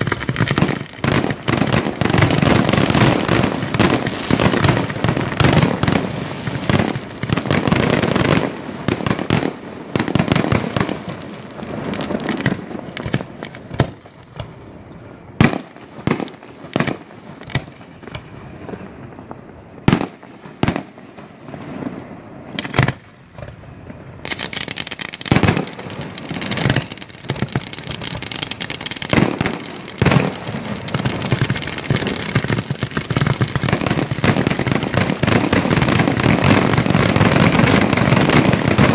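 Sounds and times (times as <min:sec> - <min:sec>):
fireworks bursting with crackle: 0:00.0 - 0:38.9.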